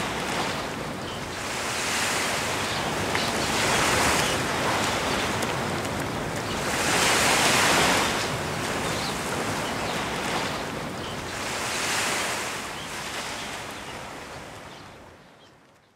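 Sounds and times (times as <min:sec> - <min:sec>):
sea waves washing in: 0:00.0 - 0:14.8.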